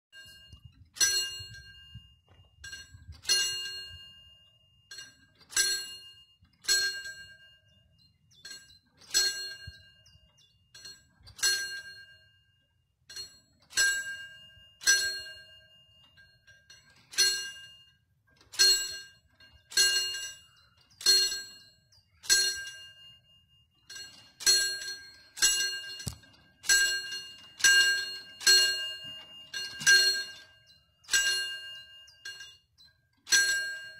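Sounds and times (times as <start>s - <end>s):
level crossing warning bell ringing: 0.1s - 33.9s.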